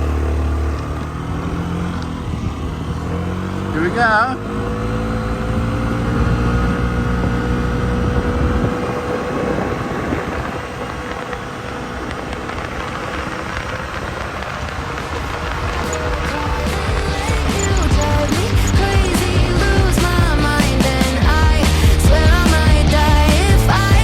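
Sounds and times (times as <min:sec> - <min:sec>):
scooter engine running: 0:00.0 - 0:24.0
wind rushing over microphone: 0:00.9 - 0:24.0.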